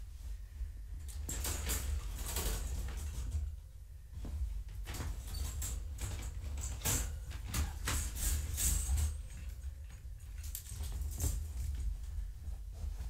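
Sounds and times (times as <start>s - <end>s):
steady low hum: 0.0s - 13.0s
wire panels clinking and scraping: 0.9s - 13.0s.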